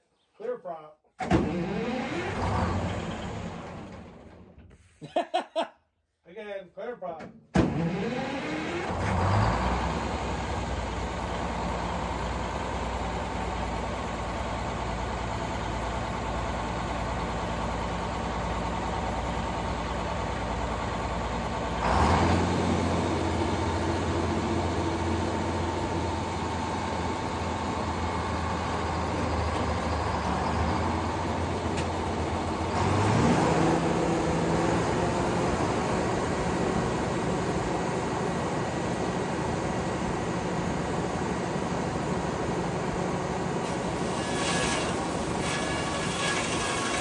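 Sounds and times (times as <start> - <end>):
engine running: 1.3 - 4.6, 7.6 - 47.0.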